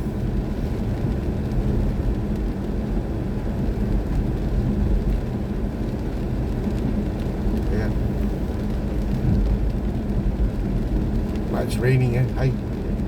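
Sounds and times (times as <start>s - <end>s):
tyre and road noise in car cabin: 0.0s - 13.0s.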